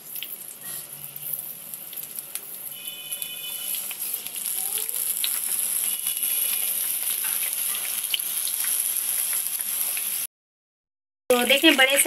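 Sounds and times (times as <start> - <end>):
eggplant slices sizzling in oil: 0.0 - 10.3, 11.3 - 12.0.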